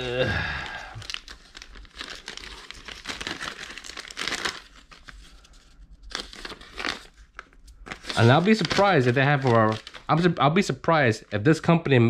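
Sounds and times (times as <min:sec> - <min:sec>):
plastic bags crinkling: 0:00.3 - 0:10.7.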